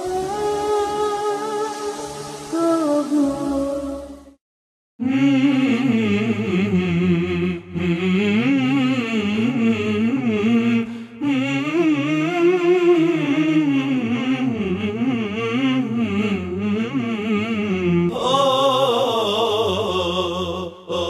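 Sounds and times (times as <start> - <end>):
song with singing voice: 0.0 - 4.4, 5.0 - 21.0.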